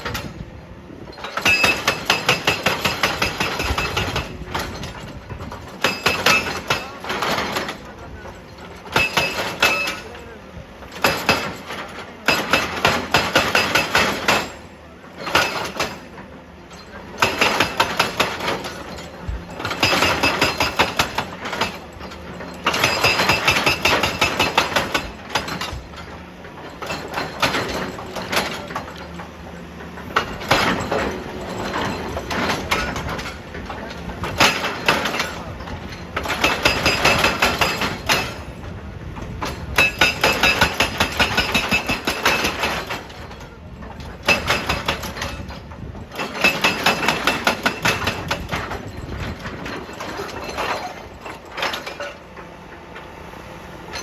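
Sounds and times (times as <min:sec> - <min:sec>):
hydraulic breaker hammering: 0:00.0 - 0:53.1
excavator engine running: 0:00.0 - 0:54.0.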